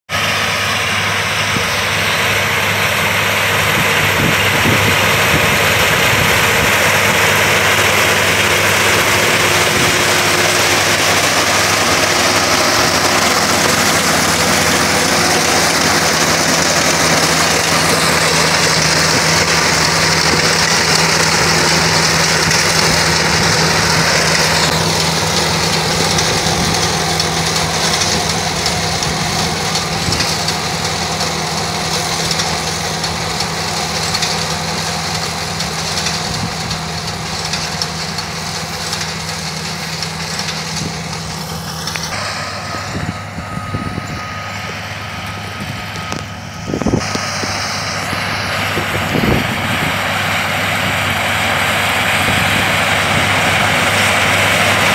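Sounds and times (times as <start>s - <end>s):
combine harvester engine drone: 0.1s - 54.9s.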